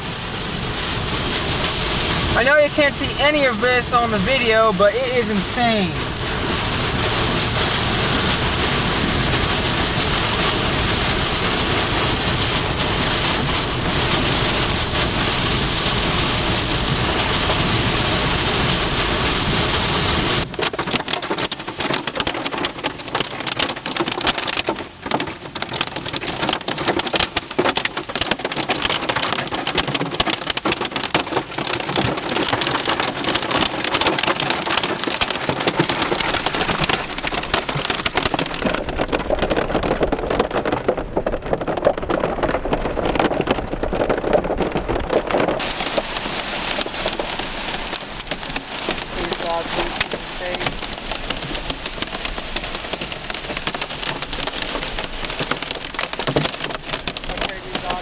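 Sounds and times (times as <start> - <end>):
heavy wind-driven rain: 0.0 - 58.0
rain pelting in sharp hits: 0.0 - 58.0.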